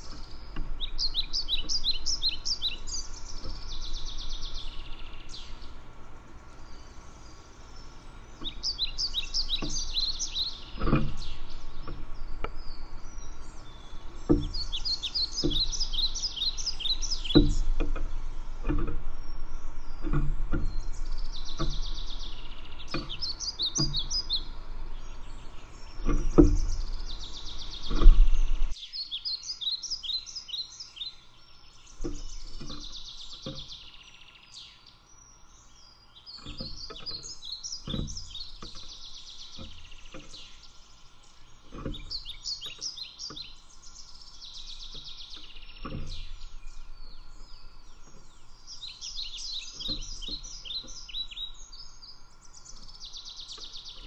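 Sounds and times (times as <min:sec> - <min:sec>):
low rumble with thumps: 0:00.0 - 0:28.8, 0:35.5 - 0:54.0
songbirds chirping trills: 0:00.0 - 0:54.0.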